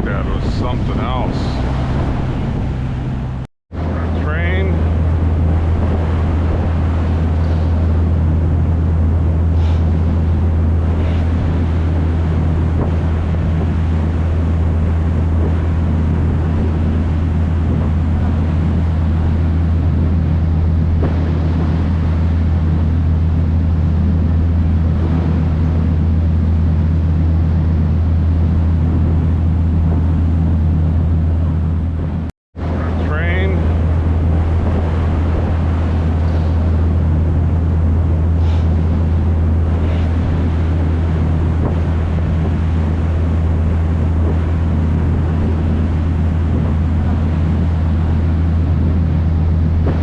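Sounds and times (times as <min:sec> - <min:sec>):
rushing water: 0:00.0 - 0:31.8, 0:32.6 - 0:50.0
boat engine droning: 0:00.0 - 0:50.0
wind: 0:00.0 - 0:50.0.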